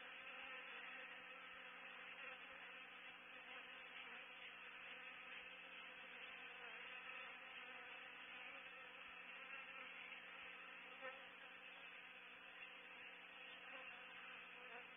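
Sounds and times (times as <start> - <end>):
bees buzzing drone: 0.0 - 14.9.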